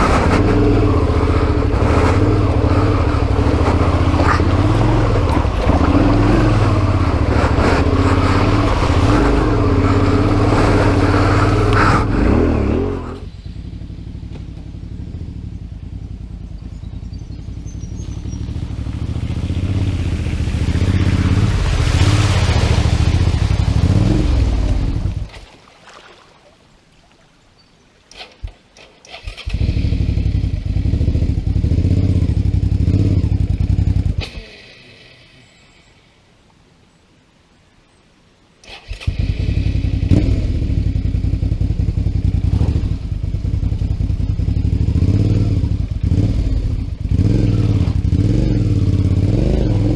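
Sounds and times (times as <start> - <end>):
motorcycle engine running: 0.0 - 25.3, 29.3 - 34.4, 39.2 - 49.9.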